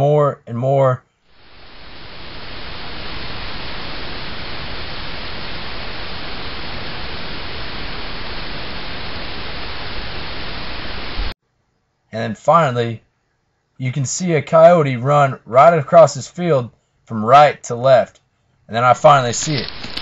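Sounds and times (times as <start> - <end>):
steady hiss of noise: 1.1 - 20.0.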